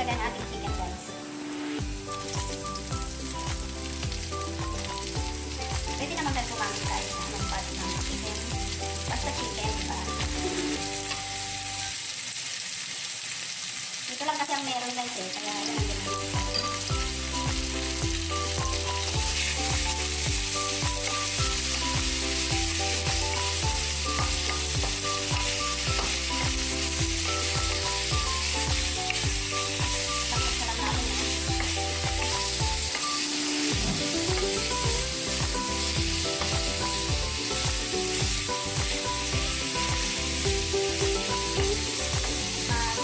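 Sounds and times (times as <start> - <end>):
chicken sizzling in hot oil: 0.0 - 43.0
background music with bass: 1.6 - 11.3, 15.8 - 33.0, 33.6 - 43.0.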